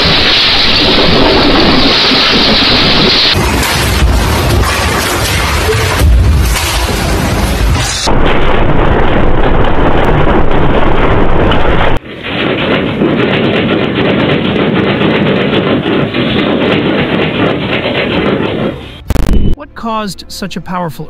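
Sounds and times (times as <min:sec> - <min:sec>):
buildings rattling and shaking: 0:00.0 - 0:19.6
earthquake rumbling: 0:00.0 - 0:19.6.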